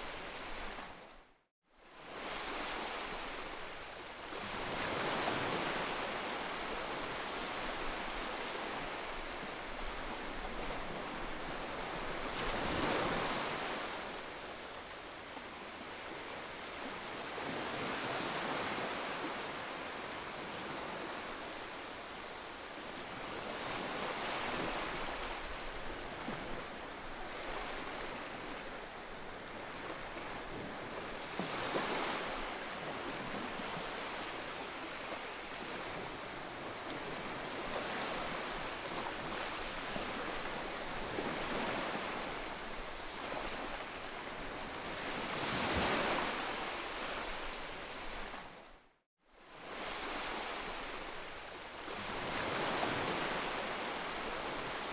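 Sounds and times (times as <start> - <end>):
ocean waves breaking on shore: 1.8 - 54.9.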